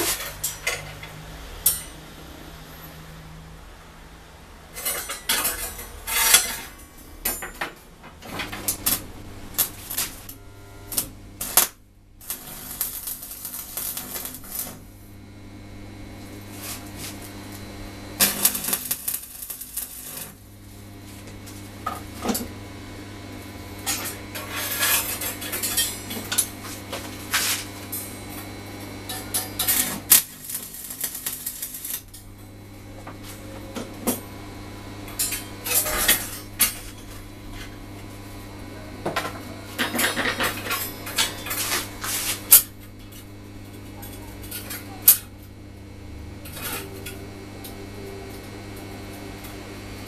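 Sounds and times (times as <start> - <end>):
steady low hum: 0.0 - 50.0
stick welding crackling: 4.7 - 7.5, 8.2 - 50.0.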